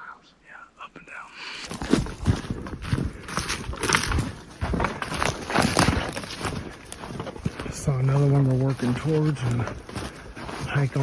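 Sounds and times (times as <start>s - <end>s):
footsteps on rough ground: 1.6s - 11.0s.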